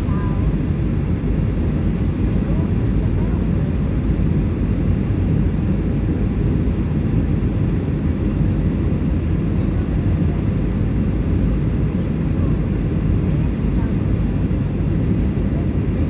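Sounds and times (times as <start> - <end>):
airliner cabin engine roar: 0.0 - 16.0.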